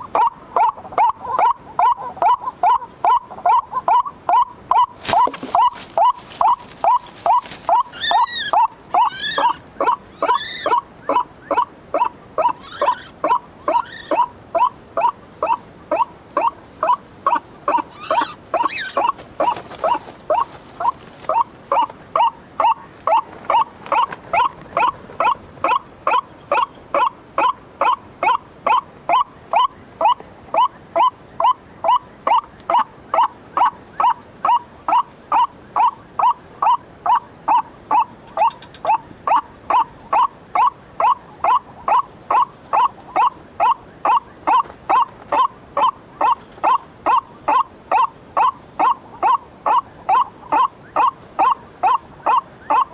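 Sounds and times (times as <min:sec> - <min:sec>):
waterhen calling: 0:00.0 - 0:52.9.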